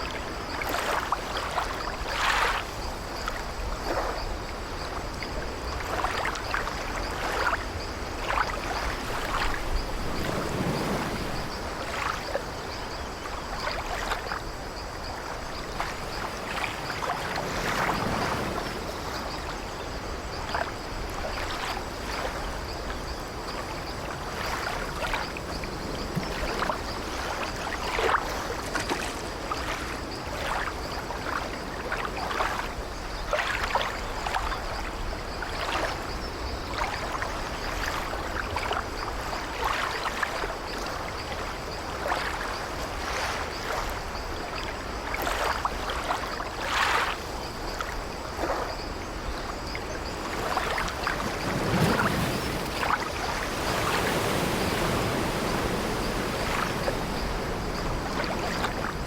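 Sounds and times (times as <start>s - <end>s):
sea water lapping against ship: 0.0s - 59.0s.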